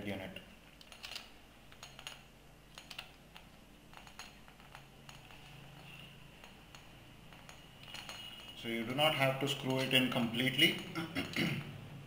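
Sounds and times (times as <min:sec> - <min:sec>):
metallic clicks and clinks: 0:00.8 - 0:11.8.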